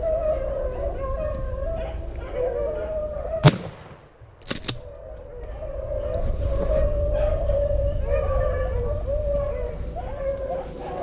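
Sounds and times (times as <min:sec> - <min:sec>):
dogs howling: 0:00.0 - 0:03.5, 0:04.8 - 0:11.0.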